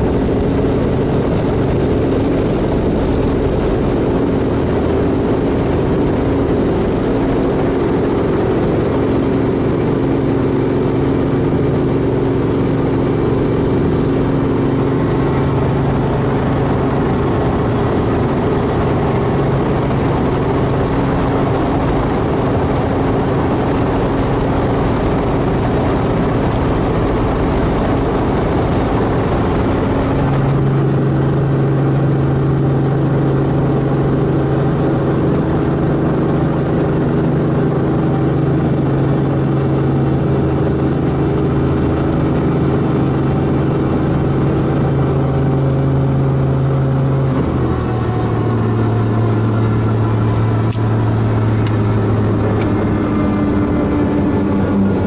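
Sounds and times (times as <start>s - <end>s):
helicopter engine and rotors droning: 0.0s - 55.0s.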